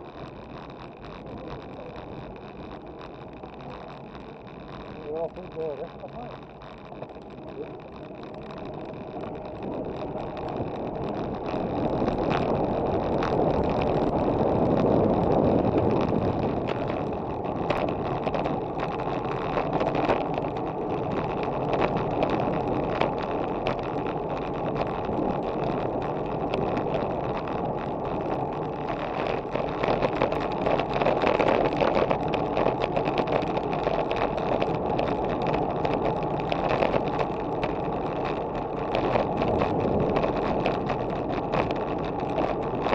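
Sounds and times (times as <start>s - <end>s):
bike tyres rolling on asphalt: 0.0s - 42.9s
wind rushing over microphone: 0.0s - 42.9s.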